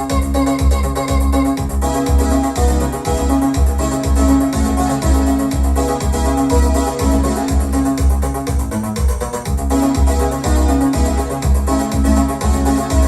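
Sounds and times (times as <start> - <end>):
heavy bass beat: 0.0 - 13.0
keyboard and organ music: 0.0 - 13.0.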